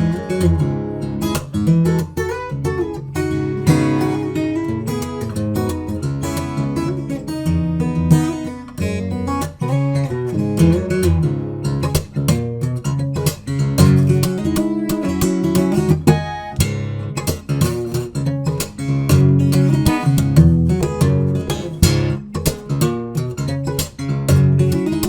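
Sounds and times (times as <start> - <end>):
acoustic guitar strummed chords: 0.0 - 25.0.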